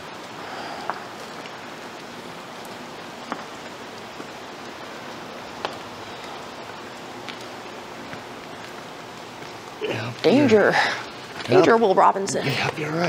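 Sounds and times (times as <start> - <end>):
steady rain-like hiss: 0.0 - 13.0.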